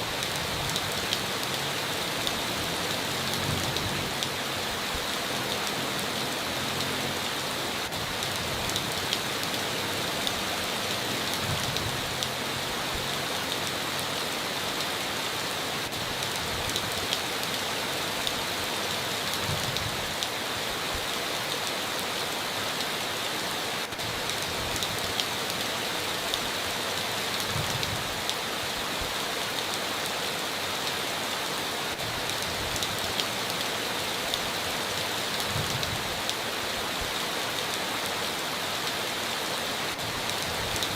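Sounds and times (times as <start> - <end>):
rain drops ticking: 0.0 - 40.9
steady rain falling: 0.0 - 40.9.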